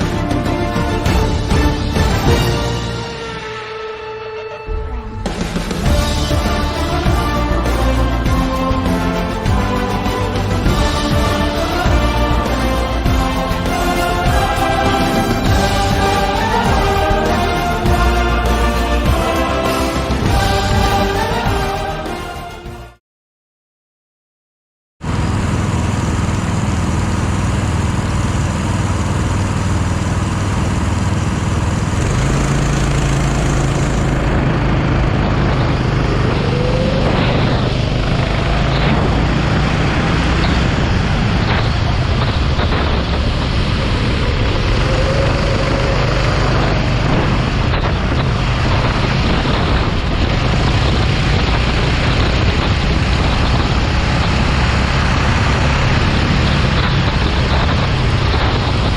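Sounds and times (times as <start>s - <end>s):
go-kart engine running hard: 0.0s - 3.7s, 4.7s - 22.1s, 25.0s - 58.9s.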